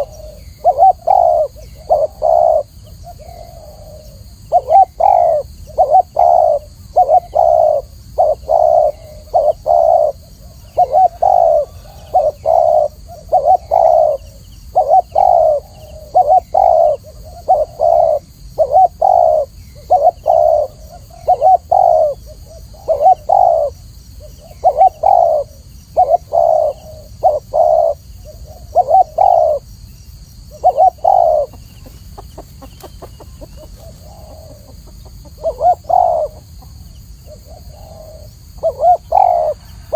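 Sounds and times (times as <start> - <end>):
dove cooing: 0.0 - 29.7, 30.4 - 39.9.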